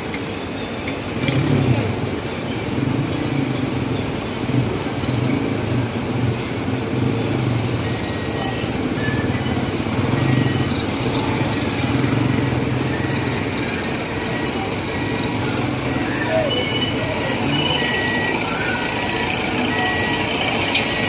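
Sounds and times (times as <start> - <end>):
street traffic noise: 0.0 - 21.0
motorcycle engines passing: 1.1 - 21.0.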